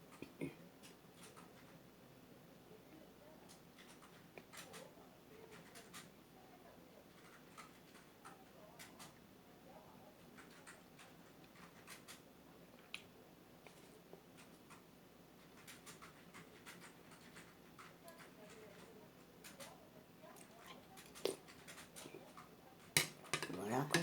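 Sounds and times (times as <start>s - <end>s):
faint clicks and ticks: 0.0s - 1.8s, 3.4s - 6.2s, 7.0s - 9.2s, 10.2s - 24.0s.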